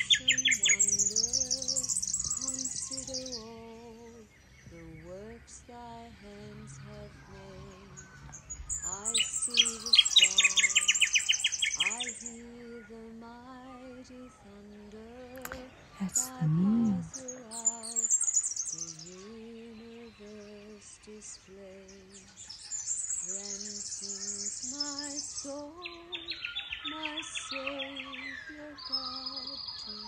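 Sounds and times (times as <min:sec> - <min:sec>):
woman humming a slow melody: 0:00.0 - 0:08.1, 0:08.8 - 0:10.9, 0:11.8 - 0:22.4, 0:23.2 - 0:30.0
birds chirping and trilling: 0:00.0 - 0:30.0.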